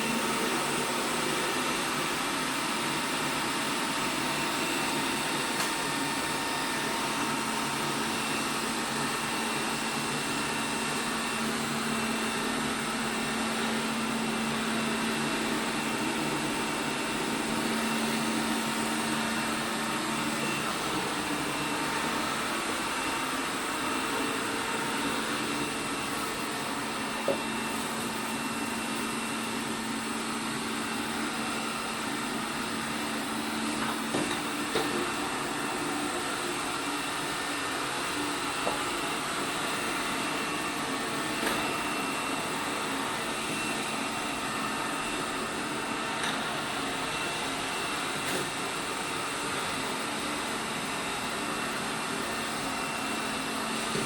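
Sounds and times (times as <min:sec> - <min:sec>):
robot vacuum humming: 0:00.0 - 0:54.0.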